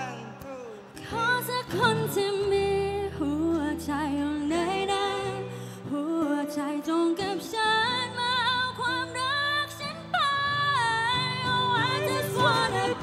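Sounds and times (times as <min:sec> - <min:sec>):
acoustic guitar: 0:00.0 - 0:13.0
woman singing into microphone: 0:01.0 - 0:13.0.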